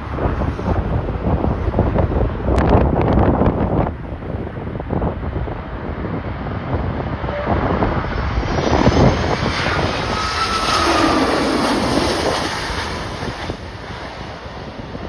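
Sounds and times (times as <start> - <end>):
jet airliner passing: 0.0 - 15.0
wind buffeting microphone: 0.0 - 15.0.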